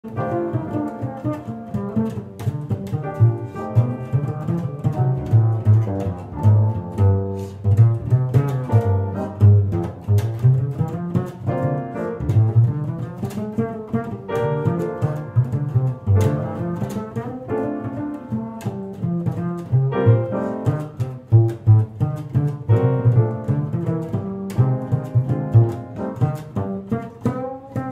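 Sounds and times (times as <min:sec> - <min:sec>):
upright bass plucked notes: 0:00.0 - 0:27.9.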